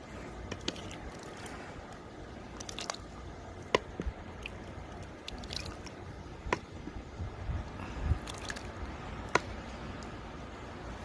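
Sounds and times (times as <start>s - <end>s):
squishy wet fruit scooping: 0.0s - 11.0s.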